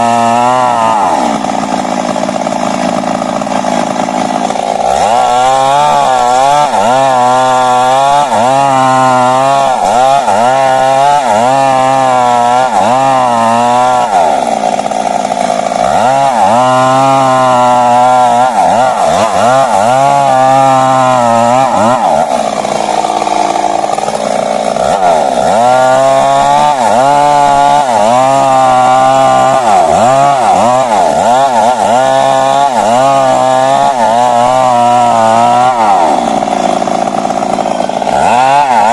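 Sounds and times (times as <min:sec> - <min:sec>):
chainsaw cutting tree trunk: 0:00.0 - 0:38.9.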